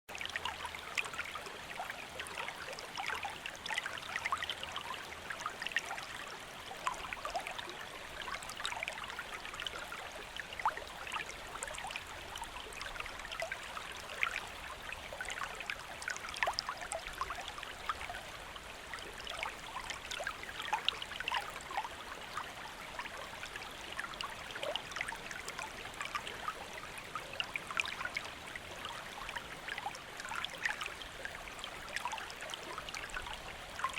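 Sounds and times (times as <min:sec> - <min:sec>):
stream flowing over stones: 0:00.1 - 0:33.9.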